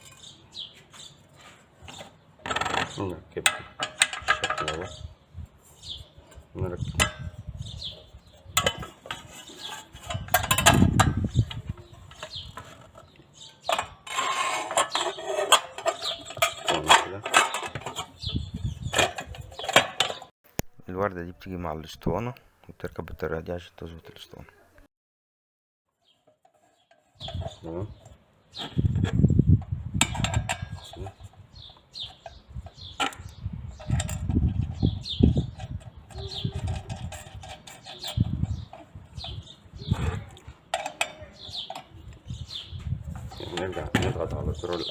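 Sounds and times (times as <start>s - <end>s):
small birds chirping: 0.0s - 3.4s, 4.5s - 14.0s, 14.8s - 16.9s, 17.5s - 24.9s, 26.0s - 29.6s, 30.7s - 44.9s.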